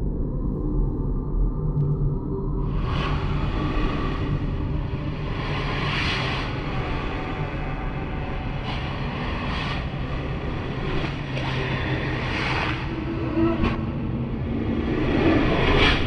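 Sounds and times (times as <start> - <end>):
low rumble and hum: 0.0 - 16.0
hissing noise gusts: 2.9 - 16.0.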